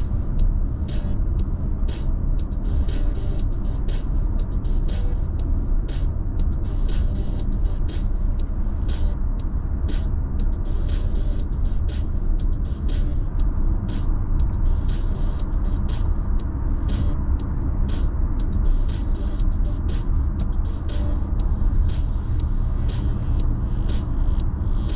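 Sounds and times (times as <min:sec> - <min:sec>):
car cabin road and engine rumble: 0:00.0 - 0:24.9.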